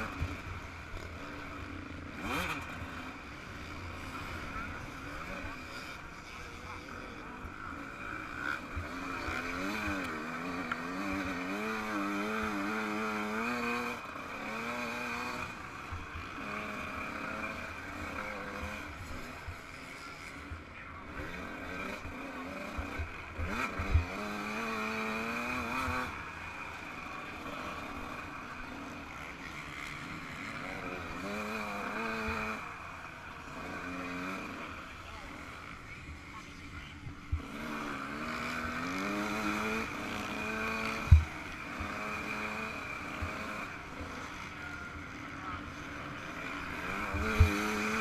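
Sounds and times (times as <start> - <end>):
motocross engine revving: 0.0 - 48.0.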